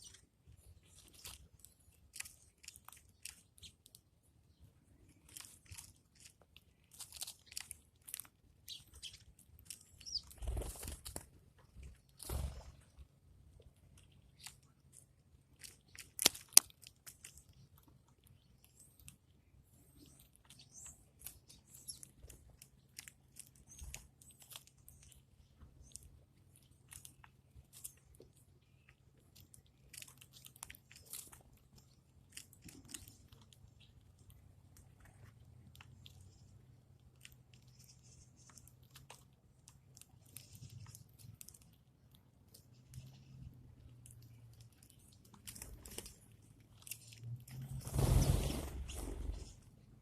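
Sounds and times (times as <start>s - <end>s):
bird pecking and crunching food: 0.0s - 50.0s.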